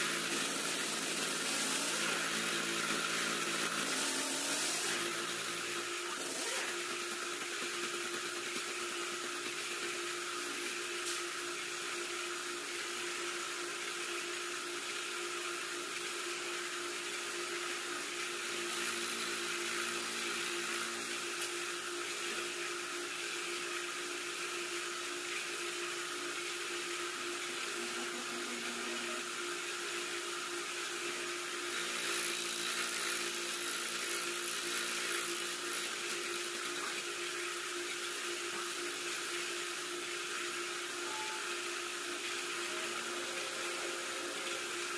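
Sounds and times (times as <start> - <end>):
boring machine cutting metal: 0.0 - 11.4, 17.0 - 23.8, 25.3 - 44.9.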